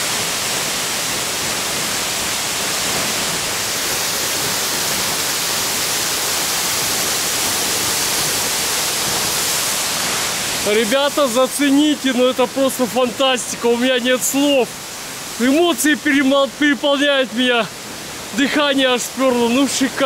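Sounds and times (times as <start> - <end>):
waterfall pouring onto rocks: 0.0 - 20.0.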